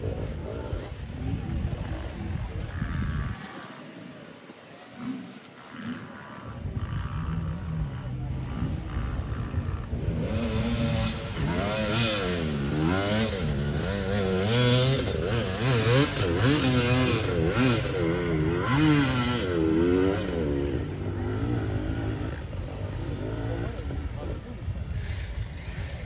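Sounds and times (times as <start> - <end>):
motocross engines revving: 4.9 - 26.0.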